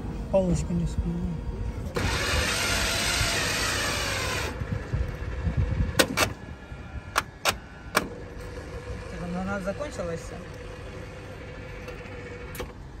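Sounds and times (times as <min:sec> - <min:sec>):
vending machine hum: 0:00.0 - 0:13.0.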